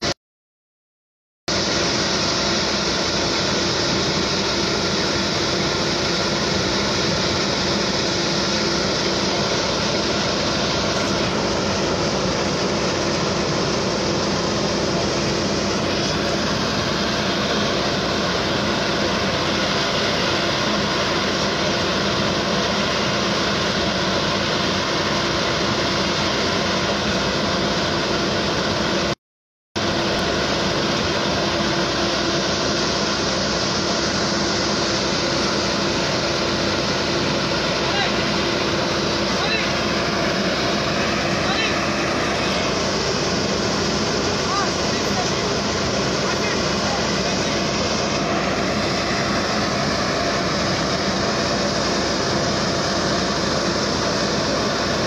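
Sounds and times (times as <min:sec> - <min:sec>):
constant hum: 0:01.5 - 0:29.1, 0:29.8 - 0:55.0
engines idling: 0:01.5 - 0:29.2, 0:29.8 - 0:55.0.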